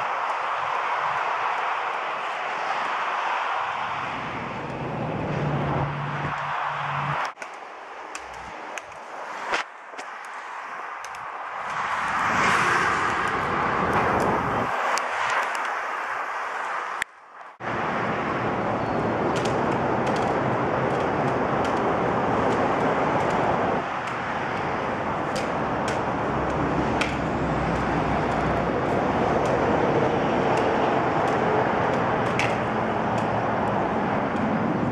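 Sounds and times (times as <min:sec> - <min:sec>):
freeway traffic: 0:00.0 - 0:34.9.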